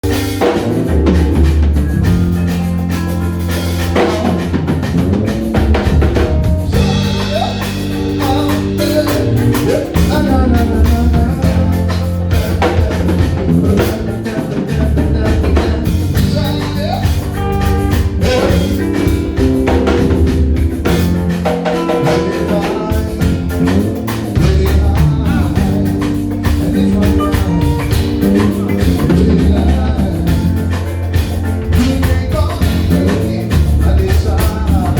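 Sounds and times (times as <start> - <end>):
band playing a song: 0.0 - 34.9.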